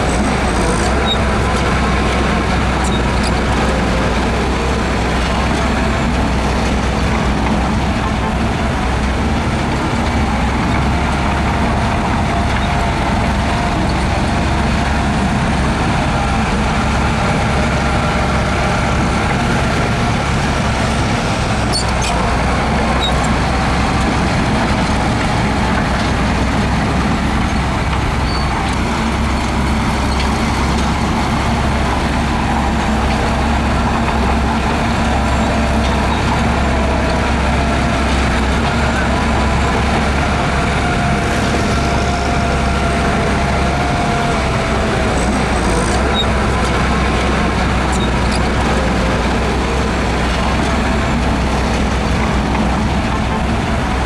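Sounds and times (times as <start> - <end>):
diesel machinery engine hum: 0.0 - 54.0.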